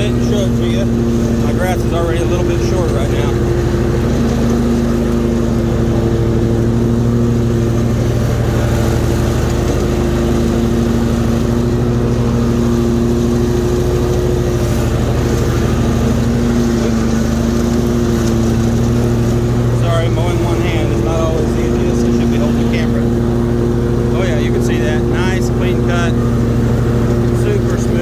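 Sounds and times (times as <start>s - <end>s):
mower engine running: 0.0s - 28.0s.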